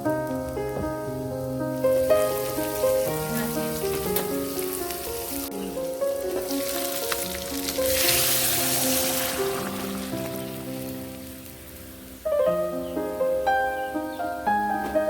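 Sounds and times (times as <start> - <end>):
faint steady hiss: 0.0 - 15.0
instrumental music with held notes: 0.0 - 15.0.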